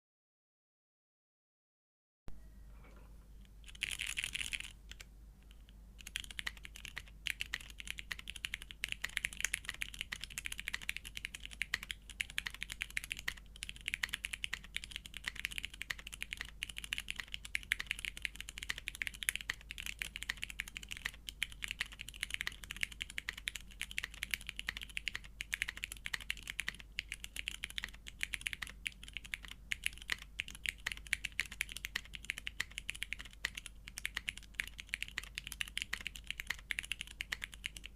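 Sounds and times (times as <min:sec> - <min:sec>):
mechanical keyboard typing: 0:03.6 - 0:37.9.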